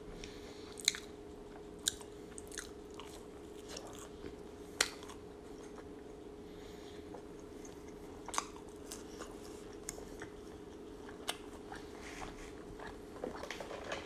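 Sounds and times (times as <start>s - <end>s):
faint steady hum: 0.0s - 14.0s
chewing food: 0.2s - 6.2s, 7.0s - 14.0s.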